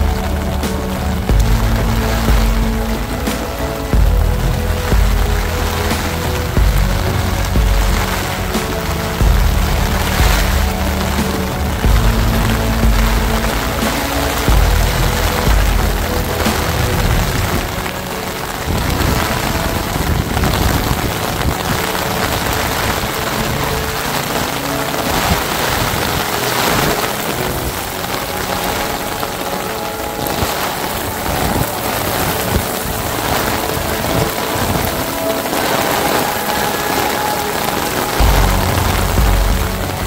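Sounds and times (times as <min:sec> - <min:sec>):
heavy rain pouring on hard surfaces: 0:00.0 - 0:40.0.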